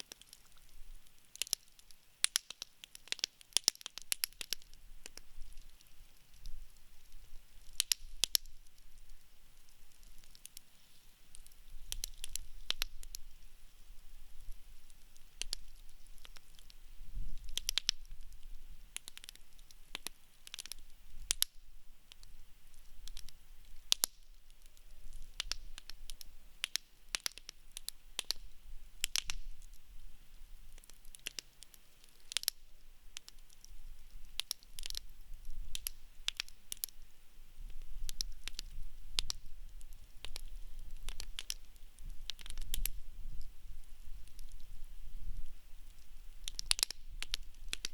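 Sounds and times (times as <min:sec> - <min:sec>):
campfire crackling and popping: 0:00.0 - 0:47.9
faint steady hiss: 0:00.0 - 0:47.9.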